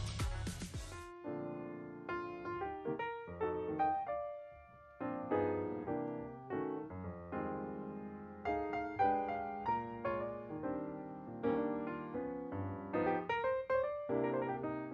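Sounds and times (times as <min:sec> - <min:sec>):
piano music: 0:00.0 - 0:14.9.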